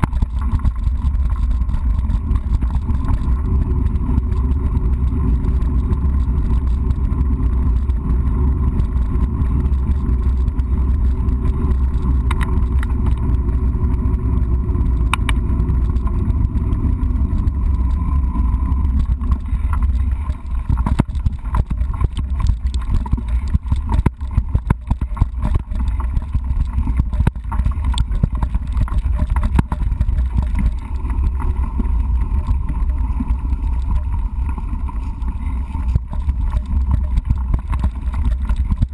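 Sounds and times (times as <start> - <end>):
bike rattling over stones: 0.0 - 38.9
wind and tyre rumble: 0.0 - 38.9.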